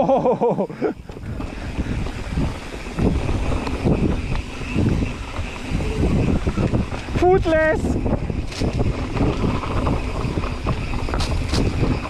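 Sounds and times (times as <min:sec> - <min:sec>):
bike tyres rumbling on dirt: 0:00.0 - 0:12.0
bike knocking and rattling: 0:00.1 - 0:12.0
wind buffeting microphone: 0:00.7 - 0:12.0.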